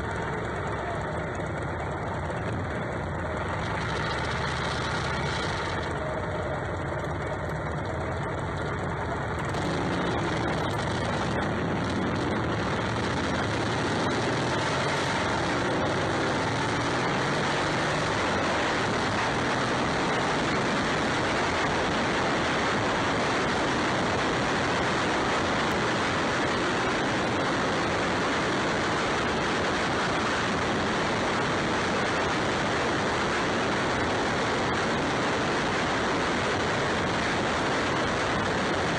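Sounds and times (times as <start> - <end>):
dense rushing noise: 0.0 - 38.9
motorcycle engine running: 0.0 - 38.9.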